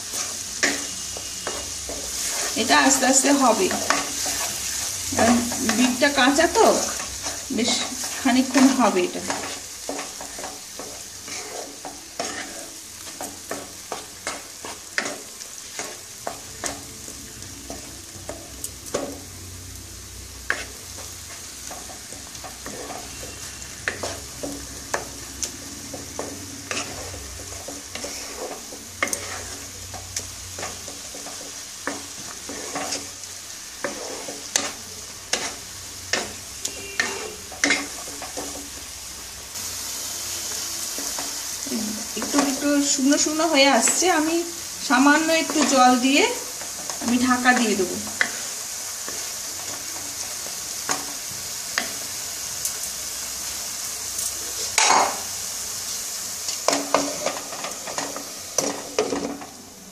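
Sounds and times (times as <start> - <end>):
wooden spatula scraping pan: 0.0 - 16.9, 20.5 - 38.9, 40.9 - 52.1, 56.5 - 59.6
paste sizzling in pan: 0.0 - 59.9.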